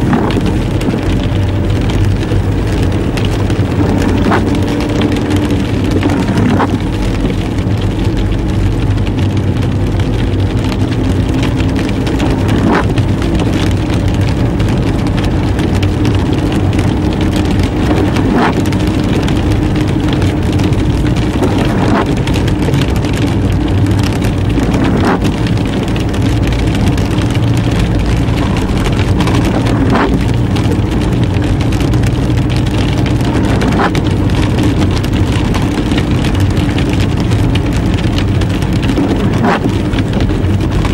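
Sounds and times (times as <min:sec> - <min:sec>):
car engine hum: 0:00.0 - 0:40.9
rain on car: 0:00.0 - 0:40.9.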